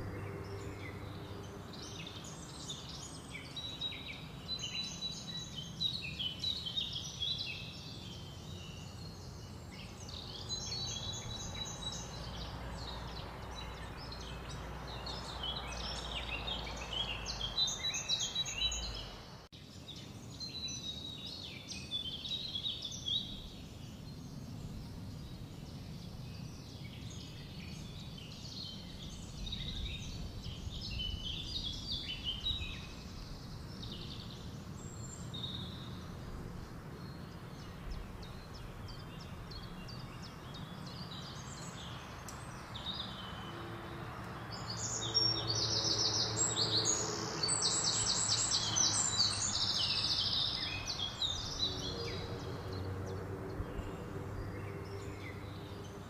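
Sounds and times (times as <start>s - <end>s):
small songbirds singing: 0.0s - 56.0s.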